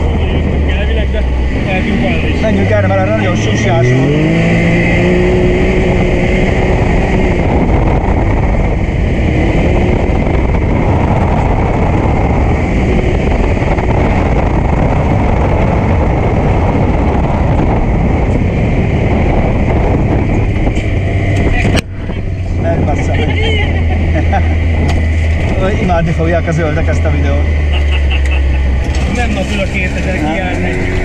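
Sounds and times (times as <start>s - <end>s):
wind and rough ground rushing: 0.0s - 27.6s
vehicle engine: 0.0s - 31.0s.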